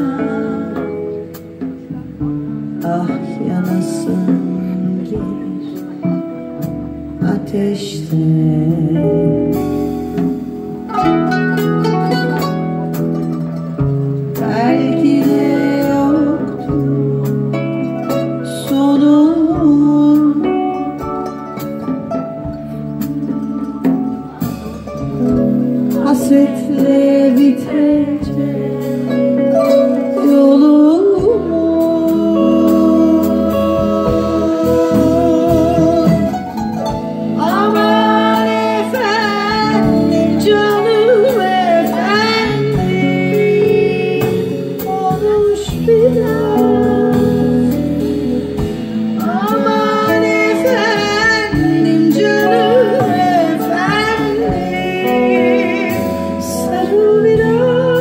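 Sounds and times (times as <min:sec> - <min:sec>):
drums: 0:00.0 - 0:58.0
electric guitar: 0:00.0 - 0:58.0
live band playing: 0:00.0 - 0:58.0
woman singing: 0:00.0 - 0:58.0.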